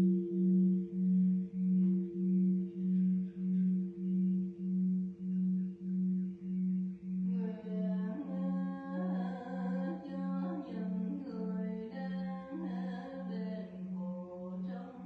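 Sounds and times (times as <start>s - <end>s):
low ringing drone: 0.0s - 14.3s
person humming a chant-like melody: 0.0s - 15.0s.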